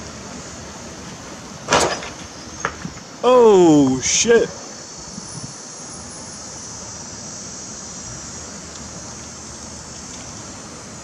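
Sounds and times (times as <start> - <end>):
low rumble of road traffic: 0.0 - 11.0
steady high hiss: 0.0 - 11.0.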